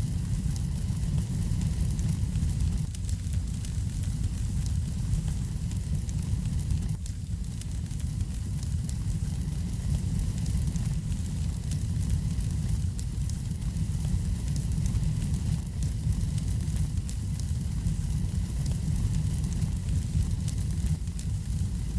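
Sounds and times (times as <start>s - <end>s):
fire burning in a fireplace: 0.0s - 21.9s
fire crackling and popping: 0.0s - 21.9s.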